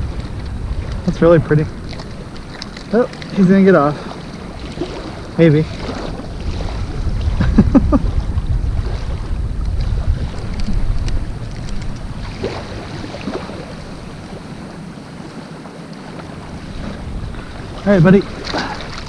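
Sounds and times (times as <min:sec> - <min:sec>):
water washing: 0:00.0 - 0:19.0
wind buffeting microphone: 0:00.0 - 0:19.0.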